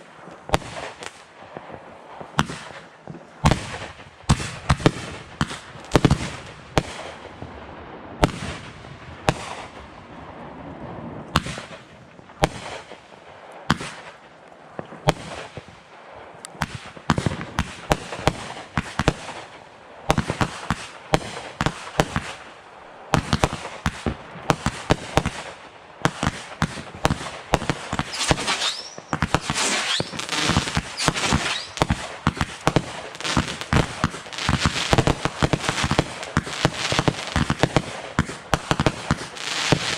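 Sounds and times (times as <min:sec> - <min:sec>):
fireworks bangs and pops: 0:00.0 - 0:15.8, 0:16.5 - 0:39.9
fireworks crackling: 0:00.0 - 0:39.9.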